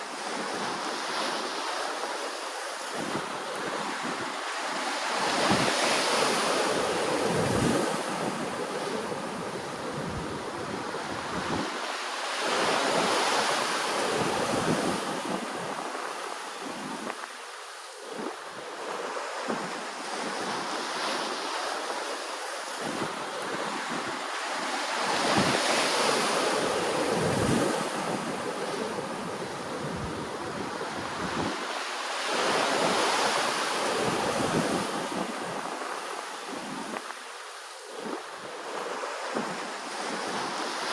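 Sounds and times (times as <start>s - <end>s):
ocean waves washing ashore: 0.0s - 40.9s.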